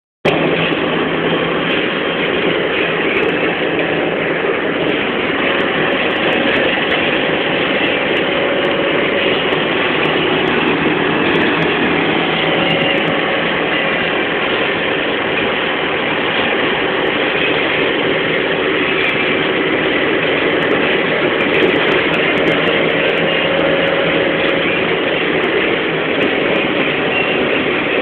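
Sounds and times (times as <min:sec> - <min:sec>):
bus engine drone: 0:00.2 - 0:28.0
road noise: 0:00.2 - 0:28.0.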